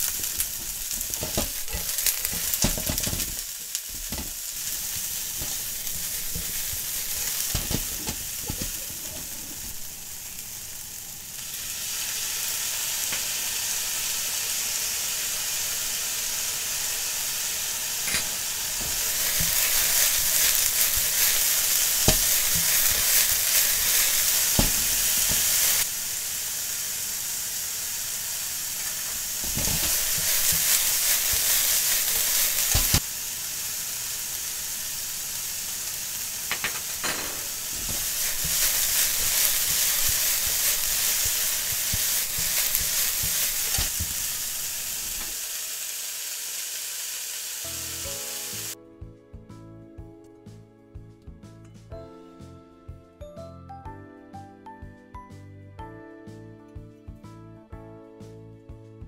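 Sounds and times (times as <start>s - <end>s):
vegetables sizzling in a frying pan: 0.0s - 48.8s.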